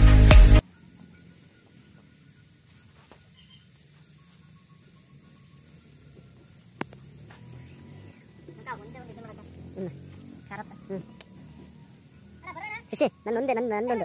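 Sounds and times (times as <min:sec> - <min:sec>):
cricket chirping: 0:00.6 - 0:14.0.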